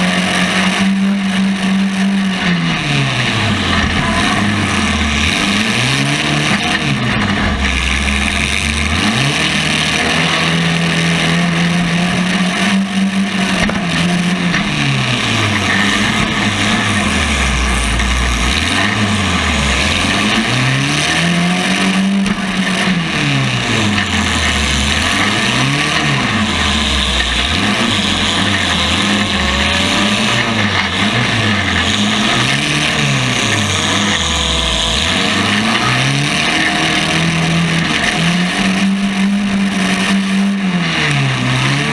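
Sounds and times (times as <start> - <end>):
race car engine accelerating: 0.0 - 41.9
steady rush of noise: 1.2 - 40.6.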